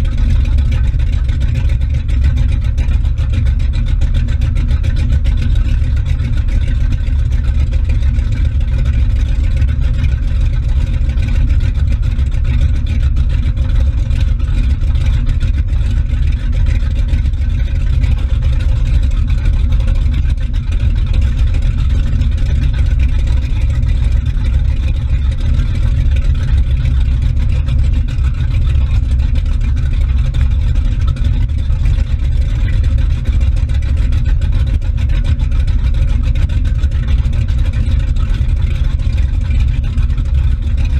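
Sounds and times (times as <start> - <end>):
motorboat engine rumbling: 0.0 - 40.9
wake churning and splashing: 0.0 - 40.9.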